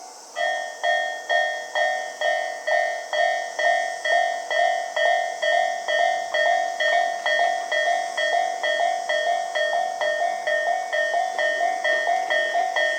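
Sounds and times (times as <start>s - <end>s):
level-crossing warning bell ringing: 0.4s - 12.9s.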